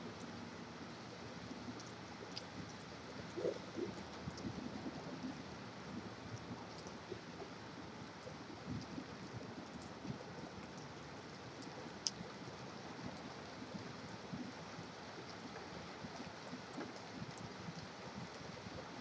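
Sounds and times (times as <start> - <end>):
drip ticks: 1.7 - 5.4, 6.0 - 7.6, 8.2 - 18.2.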